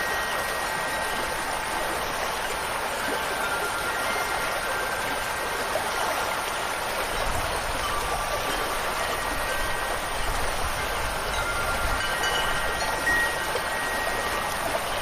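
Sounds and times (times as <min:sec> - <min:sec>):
running water and rain: 0:00.0 - 0:15.0
wind chimes ringing: 0:00.0 - 0:15.0.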